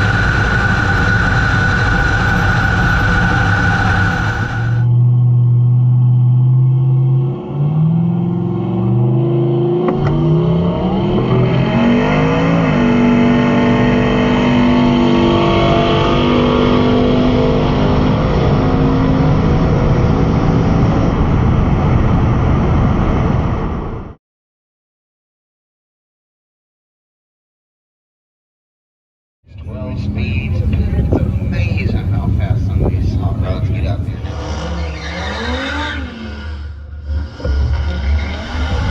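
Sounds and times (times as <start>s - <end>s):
car engine accelerating hard: 0.0s - 24.2s, 29.5s - 38.9s.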